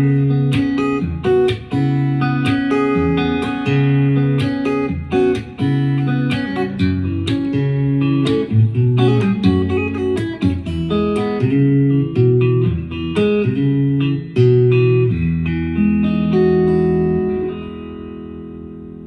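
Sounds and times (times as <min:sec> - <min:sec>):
guitar playing plucked notes and chords: 0:00.0 - 0:19.0.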